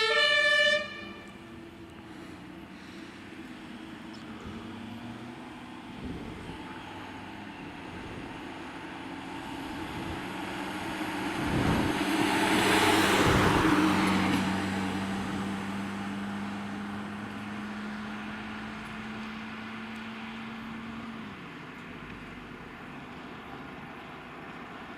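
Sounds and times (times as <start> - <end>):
fire engine driving past: 0.0 - 24.9
low engine hum: 0.0 - 24.9.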